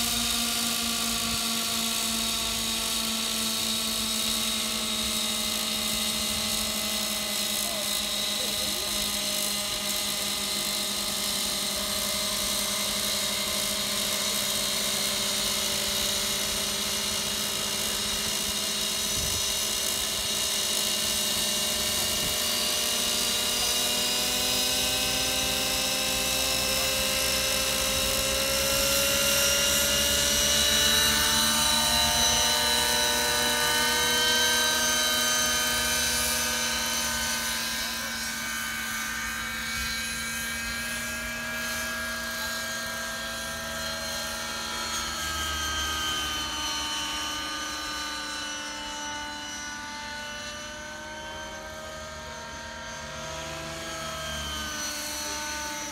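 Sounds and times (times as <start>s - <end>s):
model helicopter engines whining: 0.0s - 55.9s.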